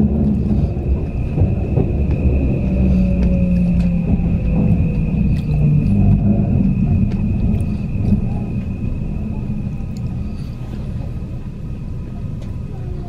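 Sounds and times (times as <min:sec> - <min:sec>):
faint steady high whine: 0:00.0 - 0:13.0
train wheels rumbling on rails: 0:00.0 - 0:13.0.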